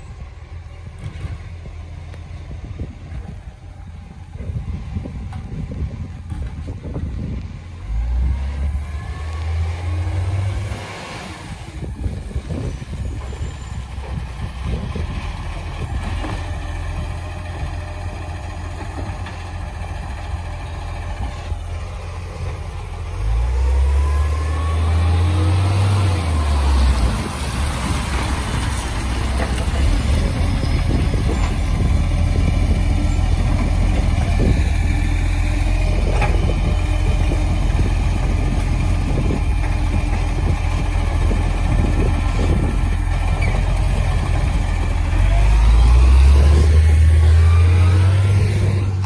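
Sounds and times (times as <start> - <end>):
garbage truck engine revving: 7.8 - 49.0.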